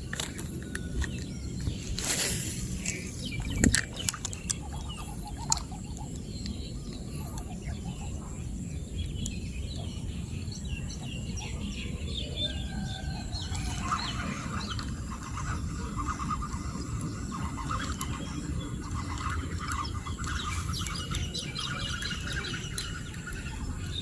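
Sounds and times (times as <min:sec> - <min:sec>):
birds chirping: 0:00.0 - 0:24.0
low repeated bird notes: 0:00.0 - 0:24.0
steady low rumble: 0:00.0 - 0:24.0.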